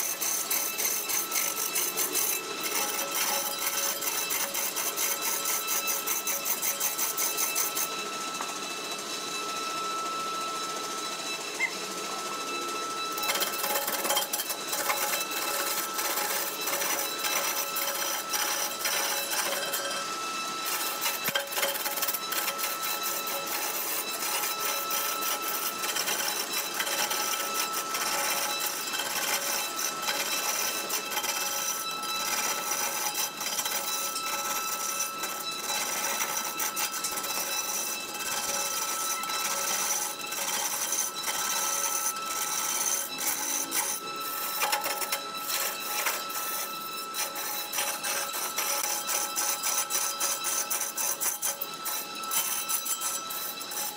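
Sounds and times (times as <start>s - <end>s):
turning tool scraping wood: 0.0s - 8.4s, 13.1s - 53.9s
lathe high whine: 0.0s - 53.9s.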